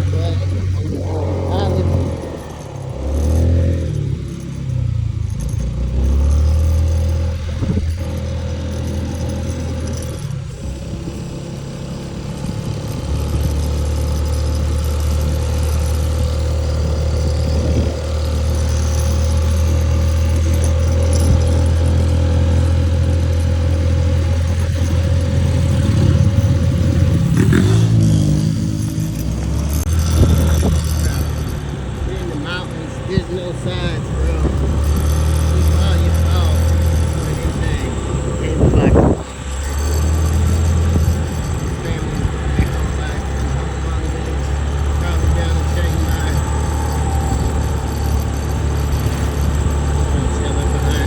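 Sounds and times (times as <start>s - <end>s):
motor scooter engine running: 0.0s - 51.0s.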